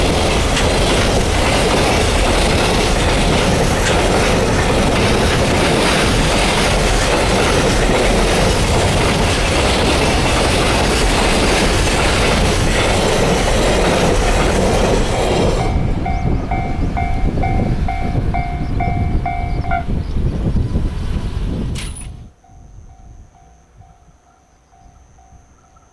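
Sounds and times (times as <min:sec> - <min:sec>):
crossing warning bell: 0:00.0 - 0:20.4, 0:21.8 - 0:25.9
train passing: 0:00.0 - 0:25.9.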